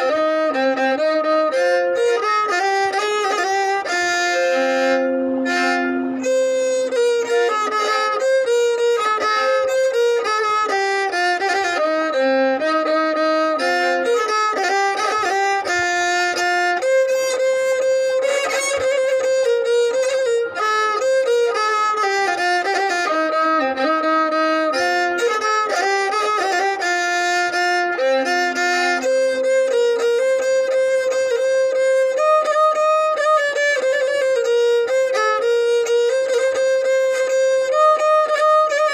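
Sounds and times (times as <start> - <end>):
solo violin melody: 0.0 - 38.9.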